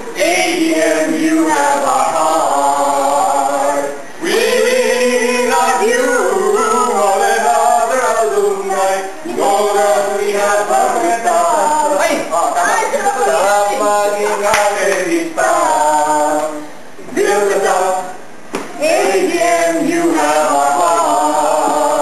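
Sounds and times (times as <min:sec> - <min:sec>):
group singing together: 0:00.0 - 0:22.0.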